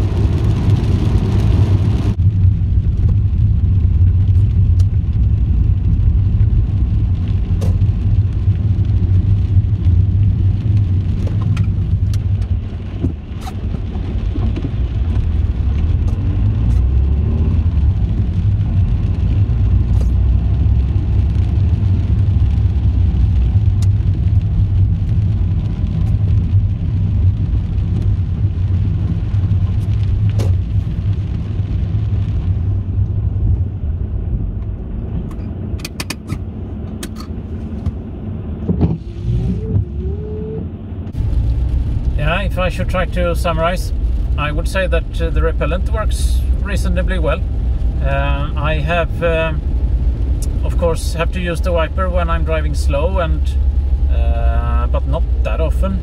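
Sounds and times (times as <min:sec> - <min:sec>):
engine and road rumble: 0:00.0 - 0:56.0
wet tyres and rain hiss: 0:00.0 - 0:56.0.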